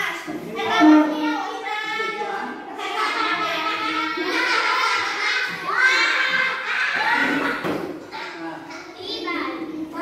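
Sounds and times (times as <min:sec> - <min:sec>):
children talking and calling out: 0:00.0 - 0:10.0.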